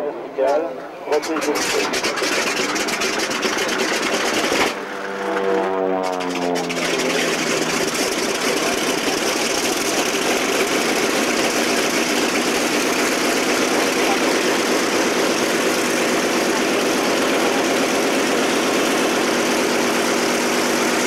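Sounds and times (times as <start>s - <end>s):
propeller plane engine running: 1.1s - 21.0s
falling whine: 3.4s - 21.0s.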